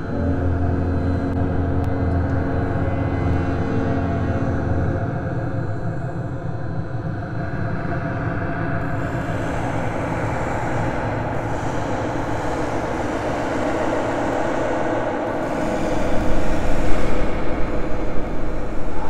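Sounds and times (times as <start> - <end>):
low rumbling drone: 0.0 - 19.0.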